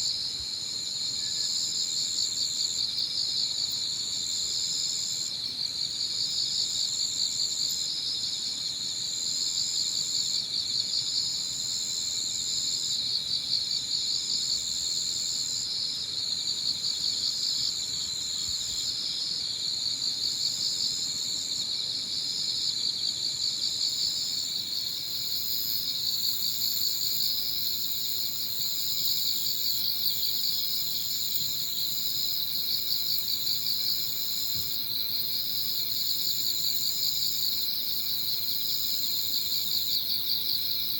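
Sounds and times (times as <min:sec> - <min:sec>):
crickets chirping: 0:00.0 - 0:40.9
rapid high insect trill: 0:00.0 - 0:40.9.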